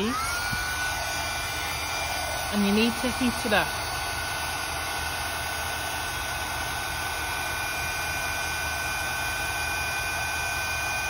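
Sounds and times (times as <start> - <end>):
heat gun blowing air: 0.0 - 11.0.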